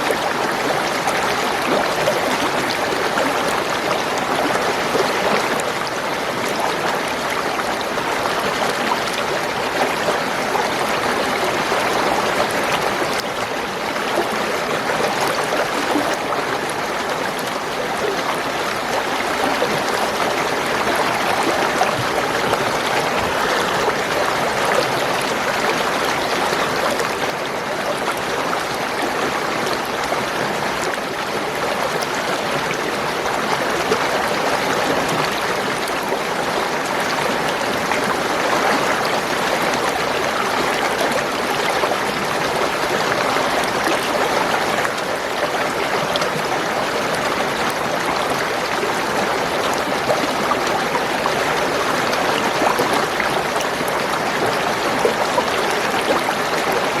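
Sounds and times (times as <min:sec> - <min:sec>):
spring water flowing and gurgling: 0:00.0 - 0:57.0.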